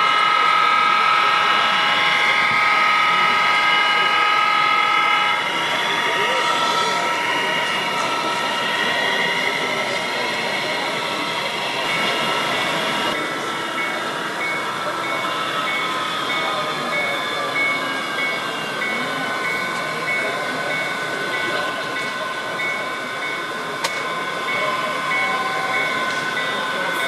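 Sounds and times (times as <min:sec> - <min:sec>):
background chatter: 0:00.0 - 0:27.0
model train running: 0:00.0 - 0:27.0.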